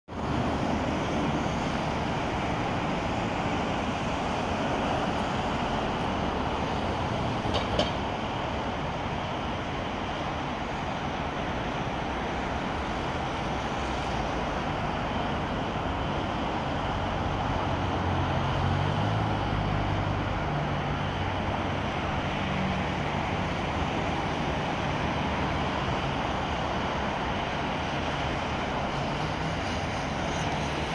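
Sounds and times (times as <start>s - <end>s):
road traffic noise: 0.1s - 30.9s.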